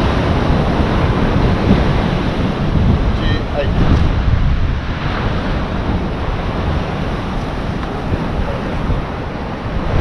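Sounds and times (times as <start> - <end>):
ocean surf washing ashore: 0.0 - 10.0
wind buffeting microphone: 0.0 - 10.0.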